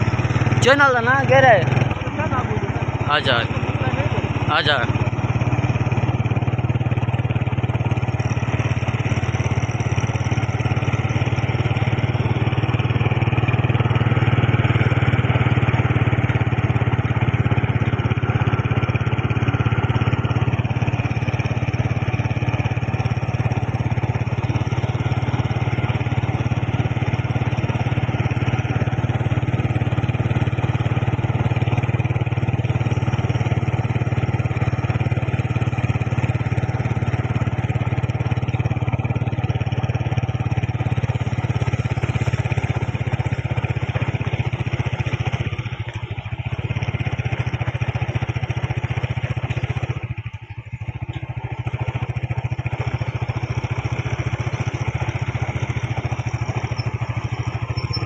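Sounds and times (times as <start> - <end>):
engine droning steadily: 0.0 - 58.0.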